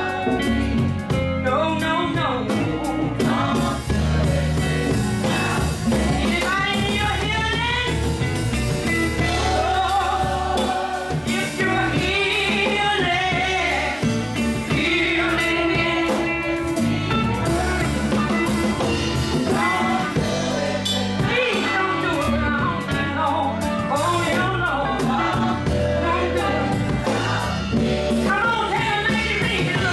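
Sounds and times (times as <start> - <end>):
drums keeping steady beat: 0.0 - 29.9
live band: 0.0 - 29.9
gospel choir singing: 2.4 - 22.9, 23.5 - 29.9.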